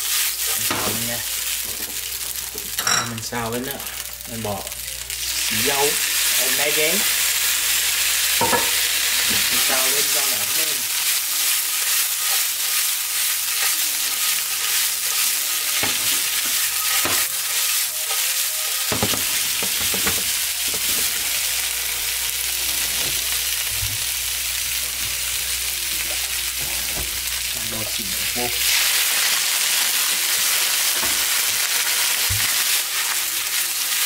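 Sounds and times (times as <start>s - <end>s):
noodles sizzling in a pan: 0.0s - 34.0s.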